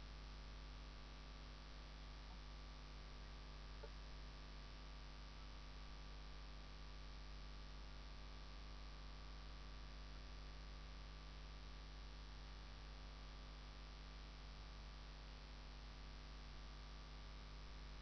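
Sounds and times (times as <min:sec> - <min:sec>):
faint electrical hum with hiss: 0:00.0 - 0:18.0.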